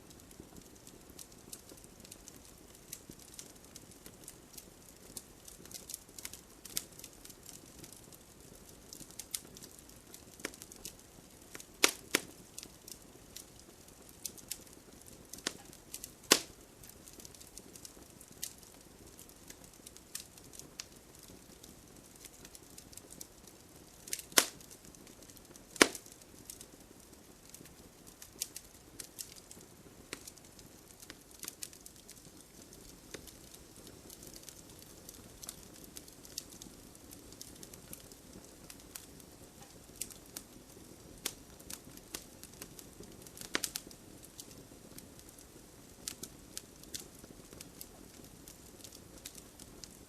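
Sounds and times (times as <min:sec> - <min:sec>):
campfire crackling and popping: 0:00.0 - 0:50.0
loud fire cracks: 0:00.1 - 0:50.0.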